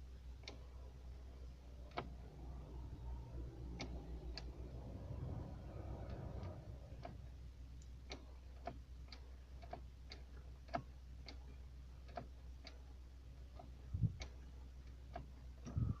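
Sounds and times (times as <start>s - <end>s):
steady ticking: 1.8s - 16.0s.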